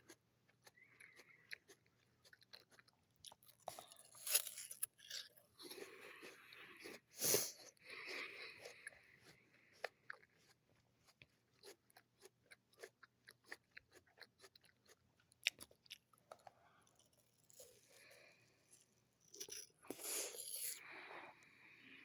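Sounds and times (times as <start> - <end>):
person chewing crisp apple: 0.0 - 21.4.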